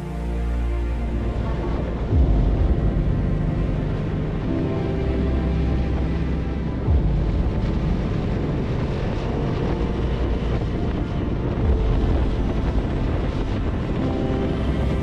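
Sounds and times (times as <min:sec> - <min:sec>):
wind buffeting microphone: 0:01.1 - 0:15.0.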